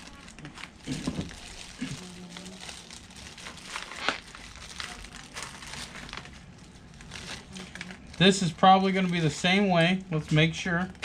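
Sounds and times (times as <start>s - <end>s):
packaging crinkling: 0.0s - 10.6s.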